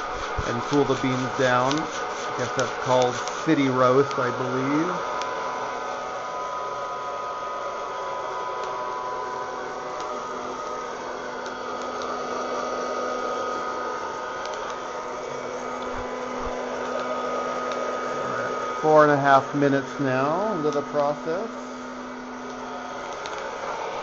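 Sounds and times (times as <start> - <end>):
hot-air popper blower running: 0.0 - 24.0.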